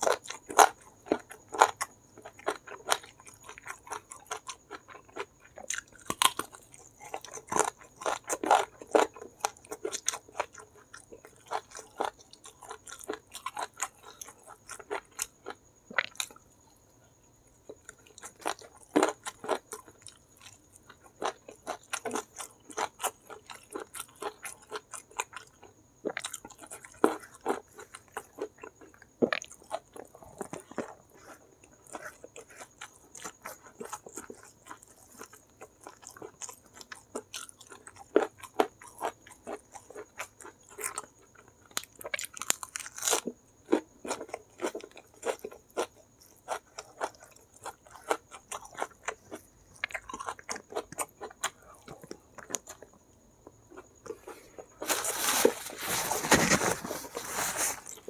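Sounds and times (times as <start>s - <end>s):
chewing crunchy food: 0.0s - 58.0s.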